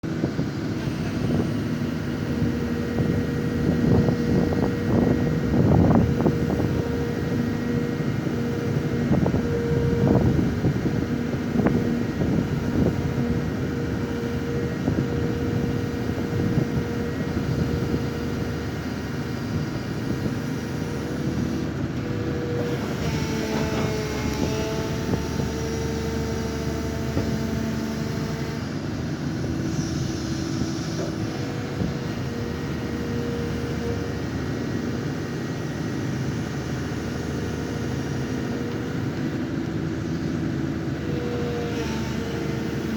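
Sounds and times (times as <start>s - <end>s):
excavator diesel engine whining: 0.0s - 42.9s.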